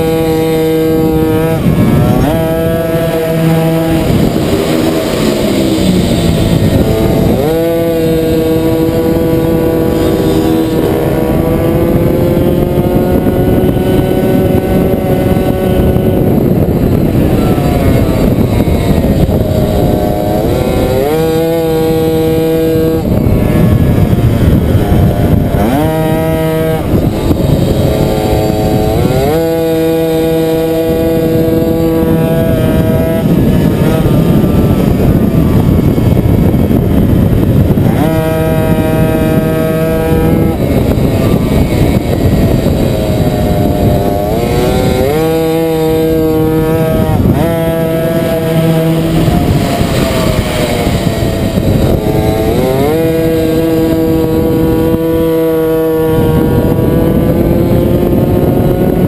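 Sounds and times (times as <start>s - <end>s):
moped engine revving: 0.0s - 59.0s.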